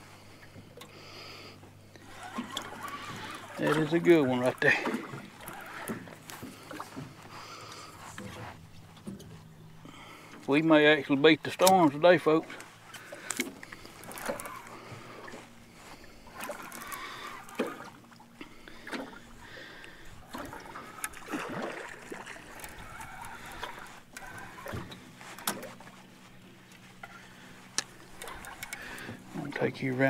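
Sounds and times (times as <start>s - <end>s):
faint steady hum: 0.0s - 30.0s
small waves lapping against hull: 0.0s - 30.0s.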